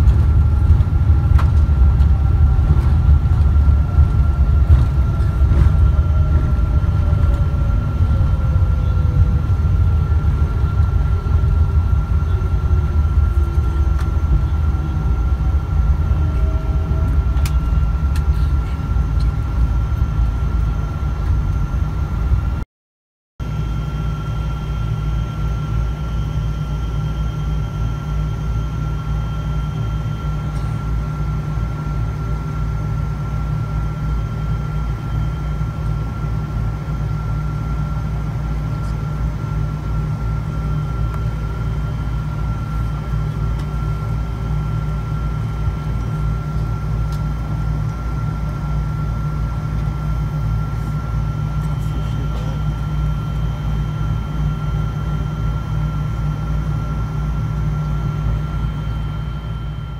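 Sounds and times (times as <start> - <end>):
aircraft cabin rumble: 0.0 - 22.6, 23.4 - 59.9
engine high whine: 0.0 - 22.6, 23.4 - 59.9.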